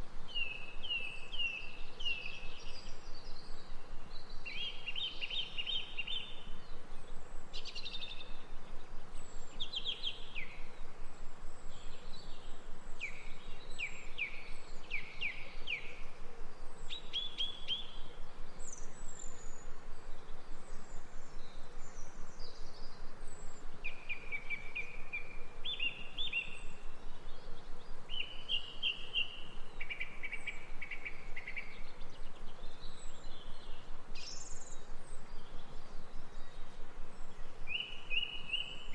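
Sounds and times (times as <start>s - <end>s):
outdoor background hiss: 0.0s - 38.9s
small songbirds singing: 0.0s - 38.9s.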